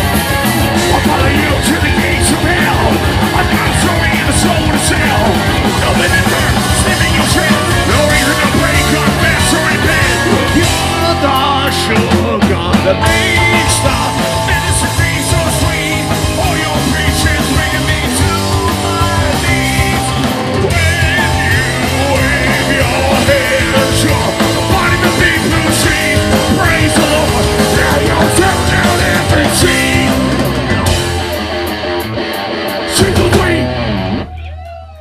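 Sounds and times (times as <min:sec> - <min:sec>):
drum kit with cymbals: 0:00.0 - 0:32.1
electric guitar: 0:00.0 - 0:35.0.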